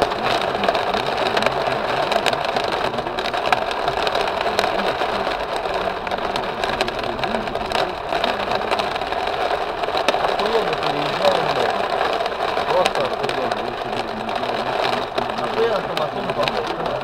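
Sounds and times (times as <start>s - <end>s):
heavy rain on car roof: 0.0s - 17.0s.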